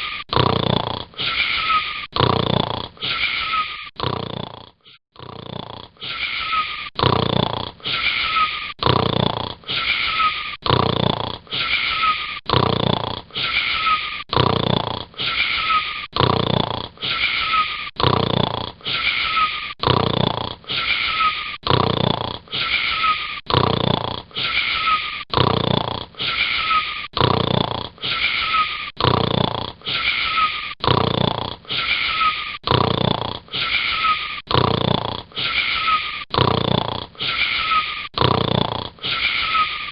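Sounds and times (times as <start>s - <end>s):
wheezy whistling snoring: 0.0s - 39.9s.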